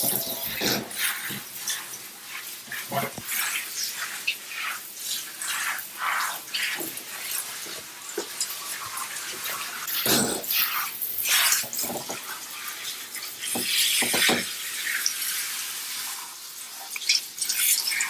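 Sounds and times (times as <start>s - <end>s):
bath tap running: 0.0s - 18.0s.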